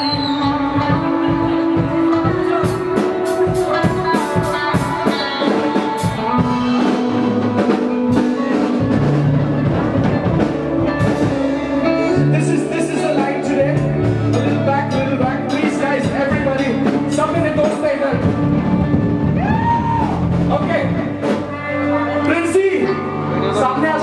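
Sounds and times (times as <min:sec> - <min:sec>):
drum and cymbal hits: 0:00.0 - 0:21.5
held guitar and bass notes: 0:00.0 - 0:24.0
live rock band playing: 0:00.0 - 0:24.0.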